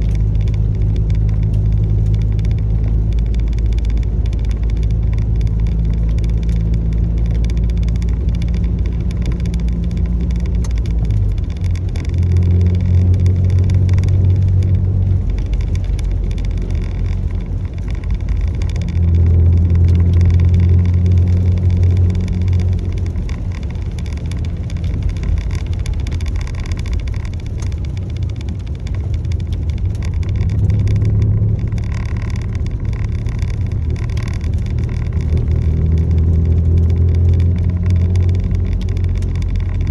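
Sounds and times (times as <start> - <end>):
motor vehicle drone: 0.0 - 39.9.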